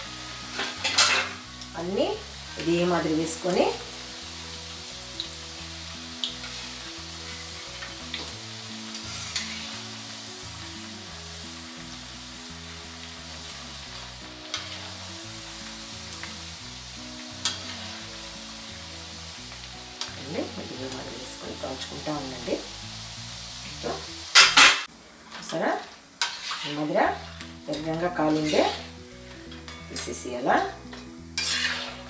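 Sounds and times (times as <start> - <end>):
soft background music: 0.0 - 24.9, 25.5 - 32.0
dough sizzling in hot oil: 0.0 - 32.0.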